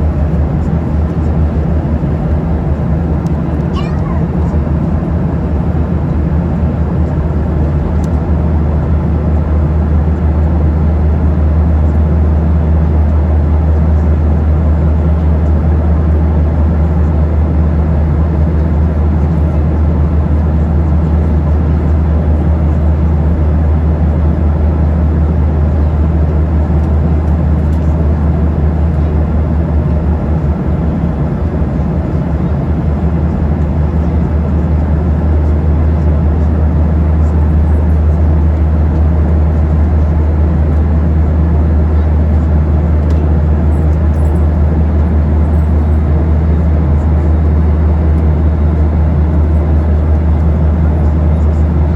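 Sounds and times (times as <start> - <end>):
airplane cabin drone: 0.0 - 51.9.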